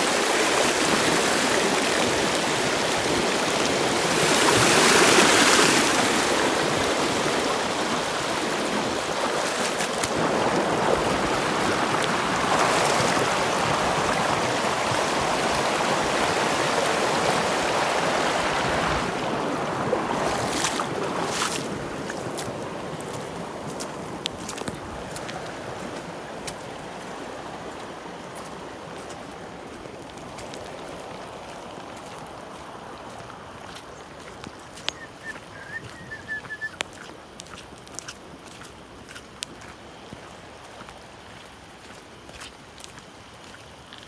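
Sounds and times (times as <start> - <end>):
water rushing through ditch: 0.0 - 44.0.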